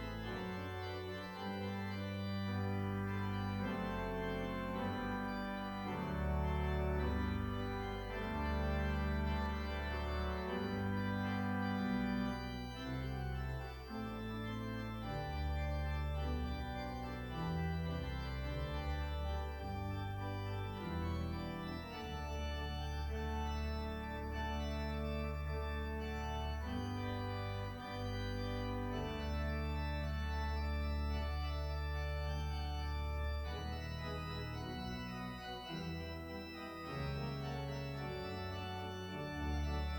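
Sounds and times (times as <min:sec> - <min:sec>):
organ chords over deep bass: 0:00.0 - 0:39.9.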